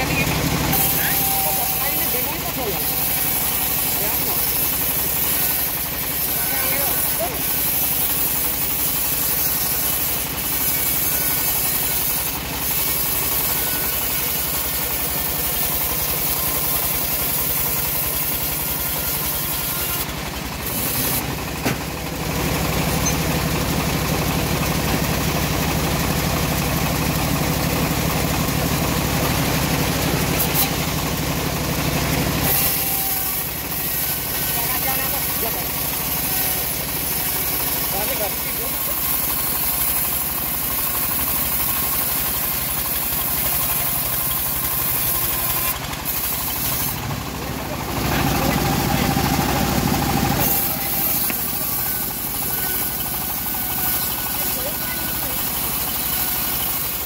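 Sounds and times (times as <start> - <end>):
bandsaw mill sawing log: 0.0 - 57.0.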